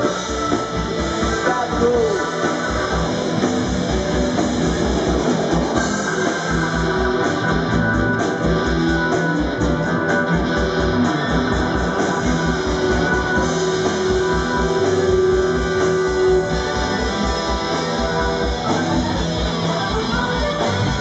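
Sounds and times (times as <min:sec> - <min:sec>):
bass guitar: 0:00.0 - 0:21.0
drum kit beat: 0:00.0 - 0:21.0
electric guitar: 0:00.0 - 0:21.0.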